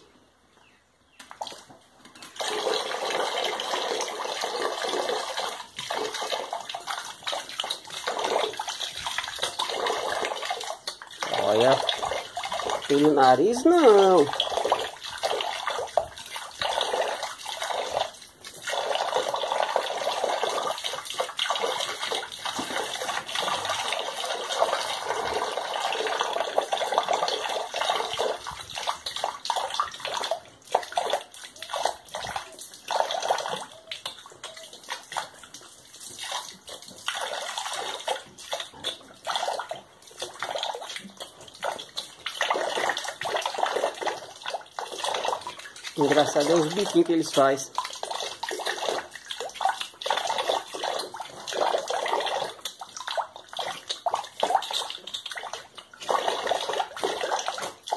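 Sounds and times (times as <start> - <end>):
running water splashing: 1.2 - 57.9.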